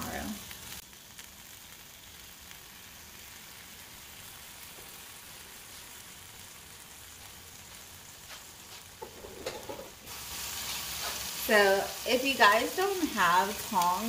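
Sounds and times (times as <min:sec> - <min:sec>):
bacon sizzling in a skillet: 0:00.0 - 0:14.0.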